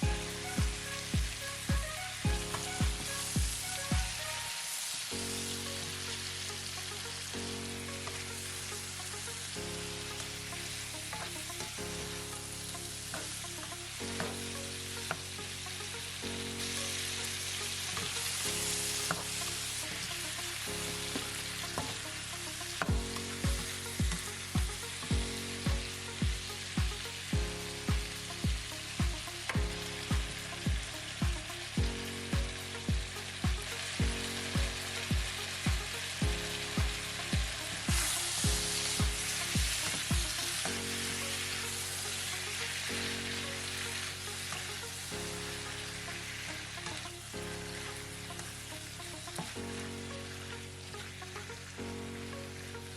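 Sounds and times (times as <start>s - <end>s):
background music with beat: 0.0s - 50.2s
food sizzling in a pan: 0.0s - 52.9s.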